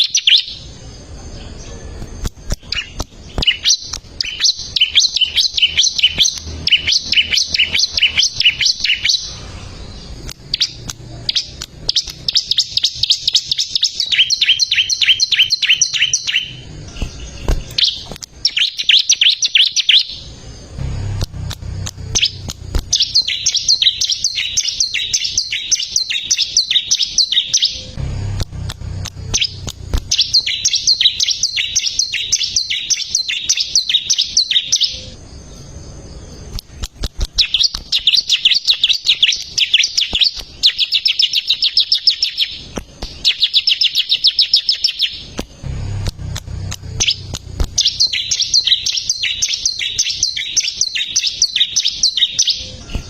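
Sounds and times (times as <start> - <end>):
bird singing high chipping notes: 0.0 - 53.0.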